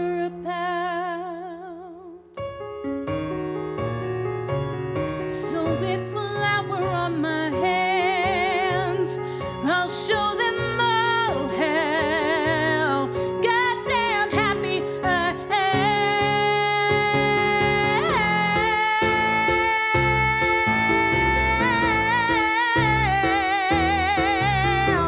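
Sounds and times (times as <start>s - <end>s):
woman singing a ballad: 0.0s - 2.4s, 5.2s - 25.0s
piano backing track: 0.0s - 25.0s.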